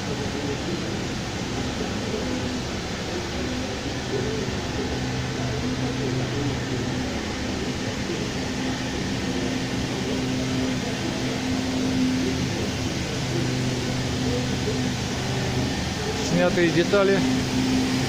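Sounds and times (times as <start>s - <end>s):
mechanical hum with hiss: 0.0s - 18.0s.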